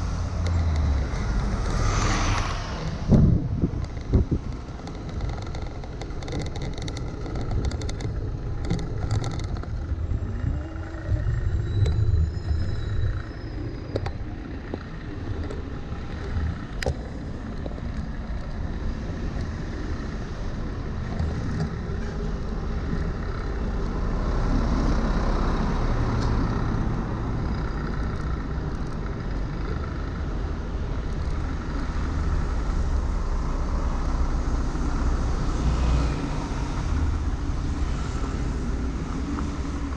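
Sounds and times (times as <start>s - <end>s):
buses passing close: 0.0s - 6.2s, 6.9s - 39.9s
low rumble of city traffic: 0.0s - 39.9s.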